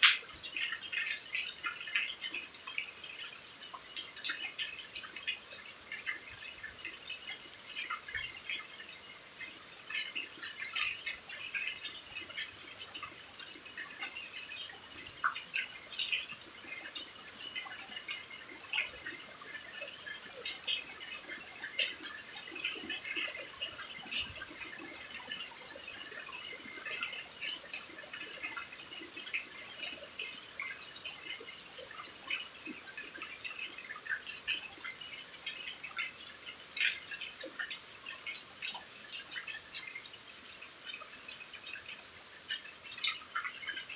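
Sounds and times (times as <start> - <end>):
faint steady hiss: 0.0 - 43.9
rain drops pattering: 0.0 - 43.9.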